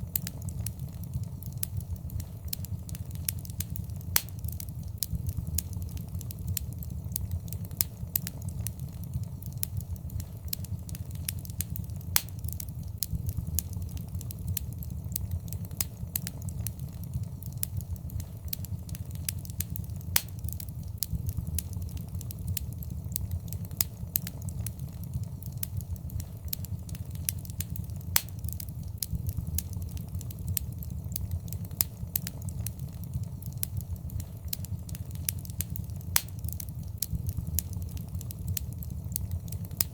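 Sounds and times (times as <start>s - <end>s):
fireplace fire crackling and popping: 0.0s - 39.9s.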